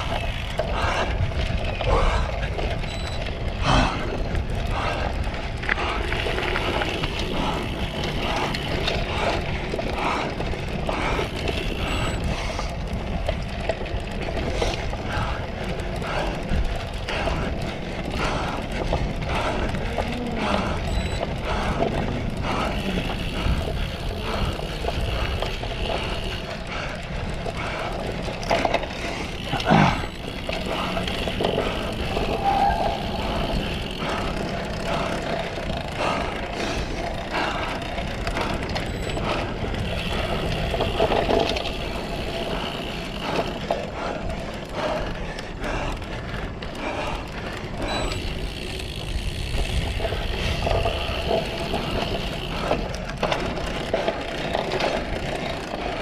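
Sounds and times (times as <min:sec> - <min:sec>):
bike rattling over bumps: 0:00.0 - 0:56.0.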